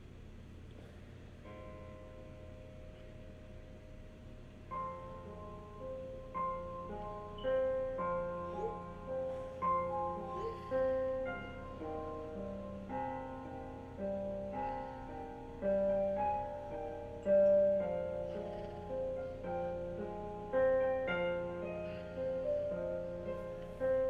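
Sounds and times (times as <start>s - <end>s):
slow quiet piano music: 0.0s - 24.0s.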